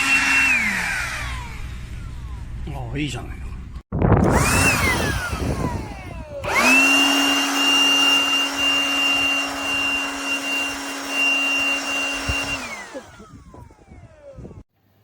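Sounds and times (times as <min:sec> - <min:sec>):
cordless blower motor running: 0:00.0 - 0:02.7, 0:04.1 - 0:14.6.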